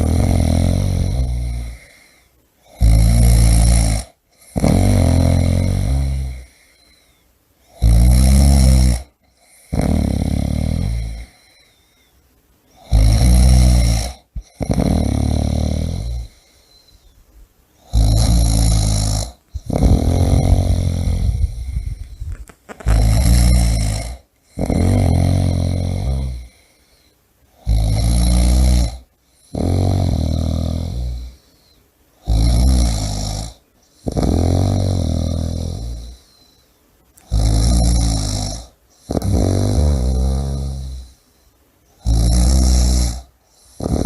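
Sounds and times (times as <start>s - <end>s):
person snoring loudly: 0.0s - 6.8s, 7.7s - 11.6s, 12.8s - 16.6s, 17.8s - 26.7s, 27.6s - 31.4s, 32.2s - 36.4s, 37.2s - 41.2s, 42.0s - 44.0s.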